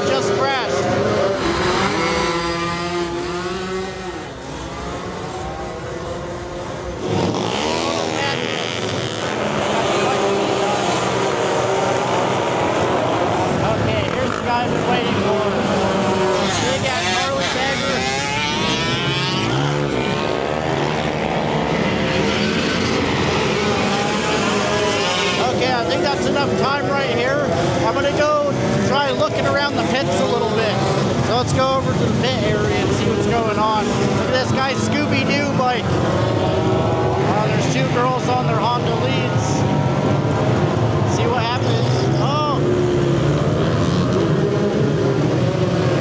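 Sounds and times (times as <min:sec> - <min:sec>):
motorbike engines revving: 0:00.0 - 0:46.0.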